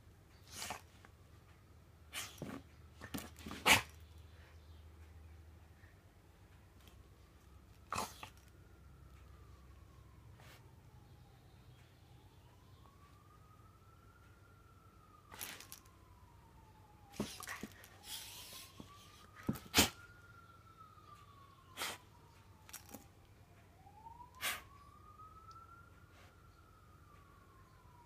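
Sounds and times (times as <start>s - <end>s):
faint siren wailing: 0.1s - 28.0s.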